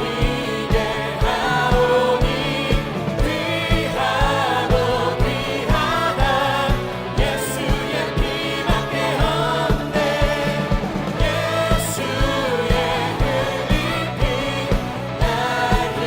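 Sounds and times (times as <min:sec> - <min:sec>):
steady drum beat: 0:00.0 - 0:16.0
worship band with singers: 0:00.0 - 0:16.0.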